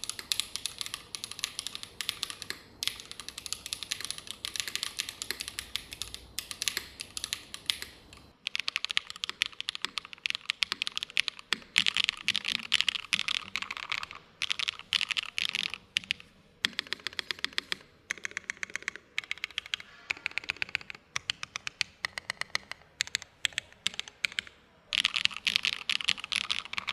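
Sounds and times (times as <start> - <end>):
mechanical keyboard typing: 0.0 - 26.9.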